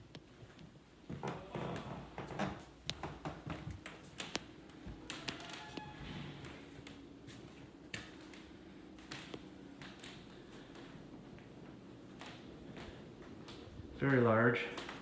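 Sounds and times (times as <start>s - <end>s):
footsteps on hardwood floor: 0.0s - 15.0s.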